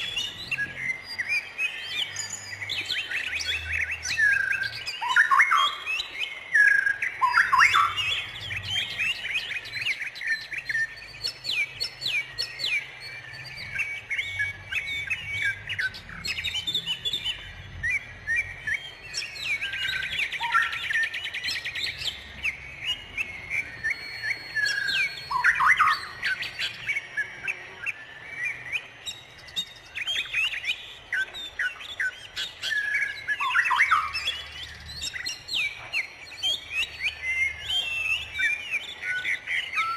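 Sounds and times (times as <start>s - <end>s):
fast bird trill: 0.0s - 39.9s
songbirds chirping chorus: 0.0s - 39.9s.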